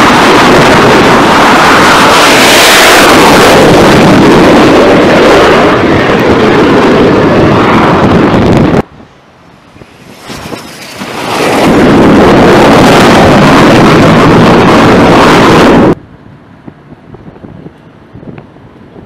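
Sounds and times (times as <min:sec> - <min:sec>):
jet engine noise: 0:00.0 - 0:19.0
wind noise on microphone: 0:00.0 - 0:19.0.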